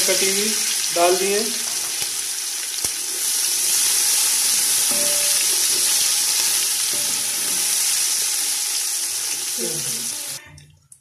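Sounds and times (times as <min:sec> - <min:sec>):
onions sizzling in oil: 0:00.0 - 0:10.4.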